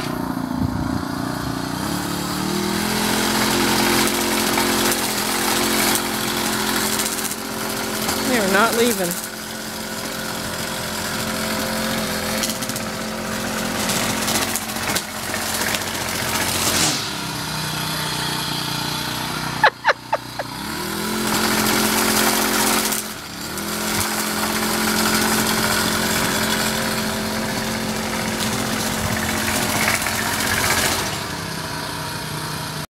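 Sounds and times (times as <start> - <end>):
string trimmer engine revving: 0.0 - 32.9.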